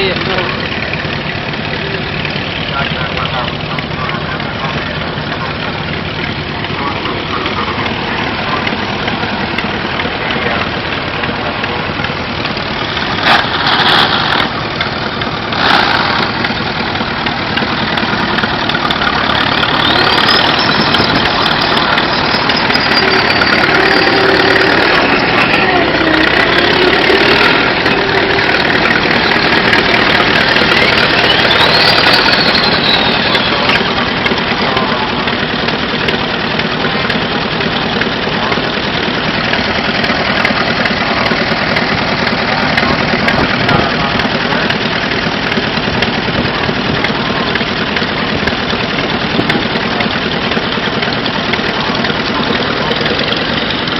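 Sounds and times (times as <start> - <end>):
engine idling: 0.0 - 53.9.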